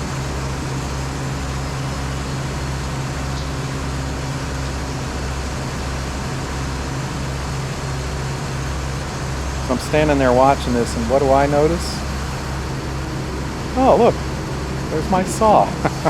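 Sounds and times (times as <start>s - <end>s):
sawmill machinery droning: 0.0s - 16.0s.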